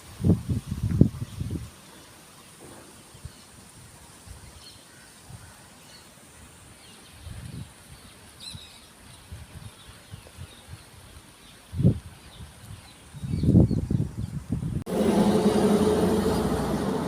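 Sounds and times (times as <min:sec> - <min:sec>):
outdoor hiss: 0:00.0 - 0:13.7.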